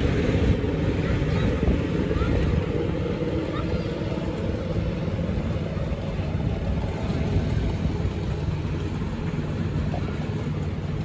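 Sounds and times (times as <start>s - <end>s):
diesel locomotive engine passing: 0.0s - 11.0s.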